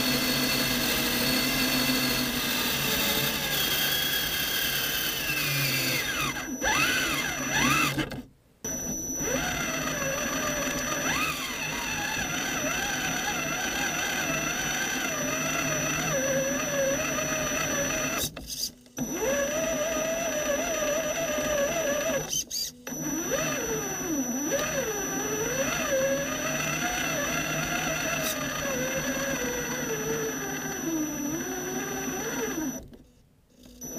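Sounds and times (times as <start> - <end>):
electric motor and gearbox whining: 0.0 - 33.0, 33.6 - 33.9.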